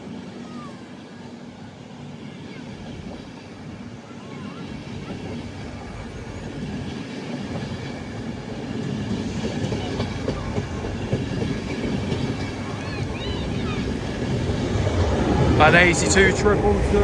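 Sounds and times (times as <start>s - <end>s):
train wheels rumbling on rails: 2.0s - 17.0s
wheels clickety-clack over track: 2.4s - 17.0s.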